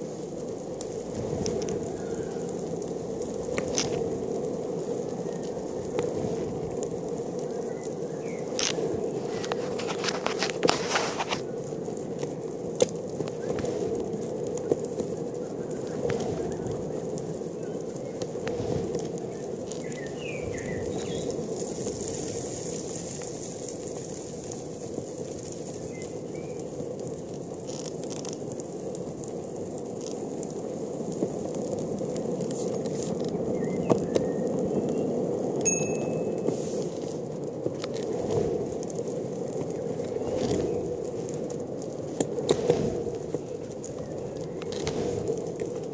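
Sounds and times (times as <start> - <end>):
longboard wheels rumbling on asphalt: 0.0 - 45.9.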